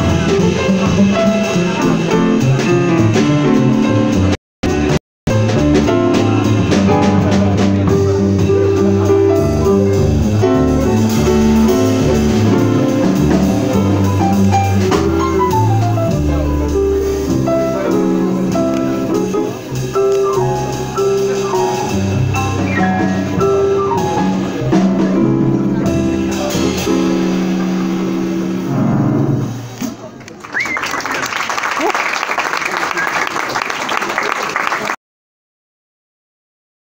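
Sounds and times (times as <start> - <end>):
jazz piano: 0.0 - 30.2
drums: 0.0 - 31.6.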